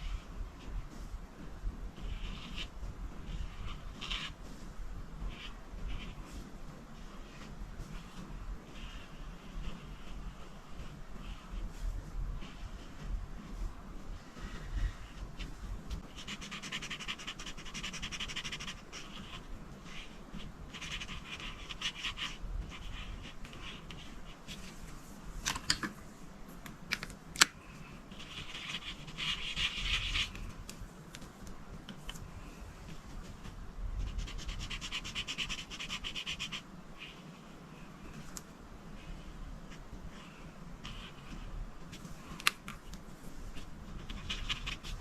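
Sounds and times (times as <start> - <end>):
coloring strokes scratching paper: 0.0 - 25.3, 27.6 - 45.0.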